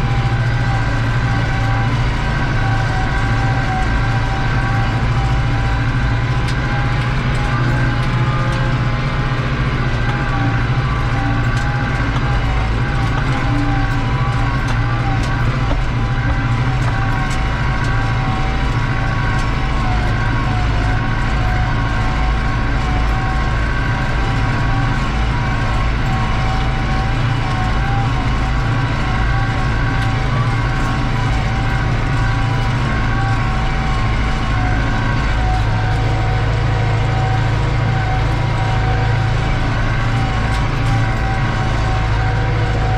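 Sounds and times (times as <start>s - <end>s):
tractor diesel engine drone: 0.0s - 42.9s
turbo whine: 0.0s - 42.9s.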